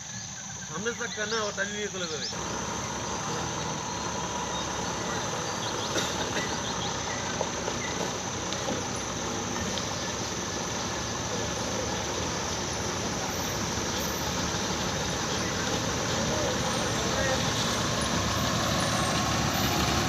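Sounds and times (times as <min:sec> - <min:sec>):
vehicle rumbling on rough road: 0:00.0 - 0:20.0.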